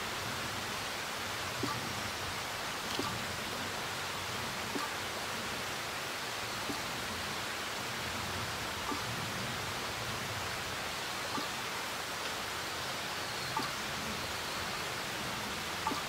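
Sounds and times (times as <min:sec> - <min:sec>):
forest ambience hiss: 0:00.0 - 0:16.0.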